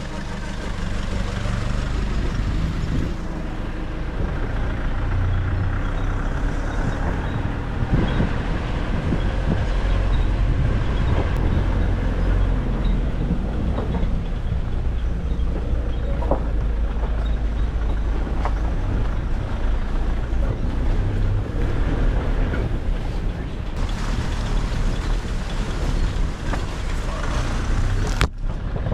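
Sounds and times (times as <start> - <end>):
engine and tyre rumble: 0.0 - 28.9.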